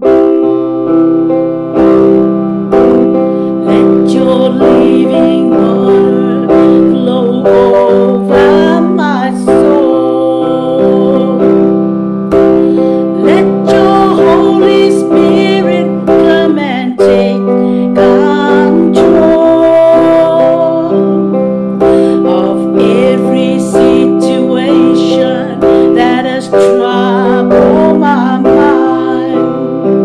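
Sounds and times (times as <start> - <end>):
electronic keyboard chords: 0.0 - 30.0
woman singing: 2.9 - 11.9, 12.8 - 30.0.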